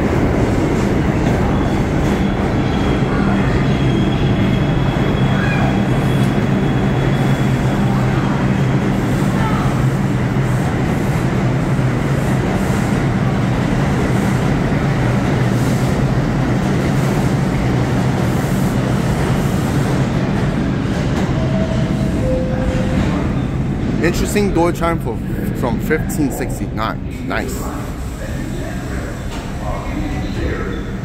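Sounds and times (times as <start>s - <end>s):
train wheels rumbling on rail: 0.0s - 25.5s.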